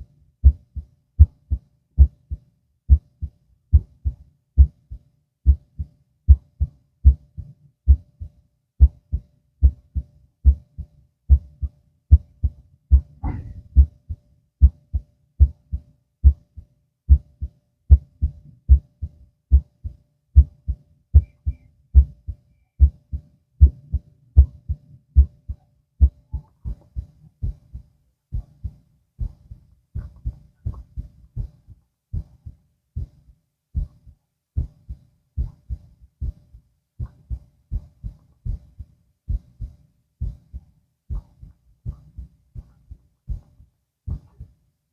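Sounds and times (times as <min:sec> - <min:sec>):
heartbeat through stethoscope: 0:00.0 - 0:44.7.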